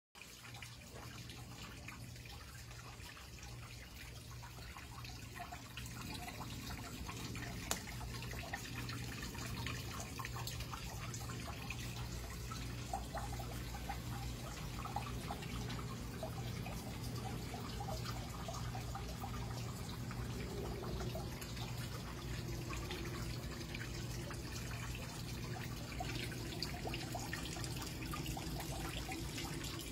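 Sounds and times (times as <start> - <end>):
water trickling and dripping: 0.2 - 29.9.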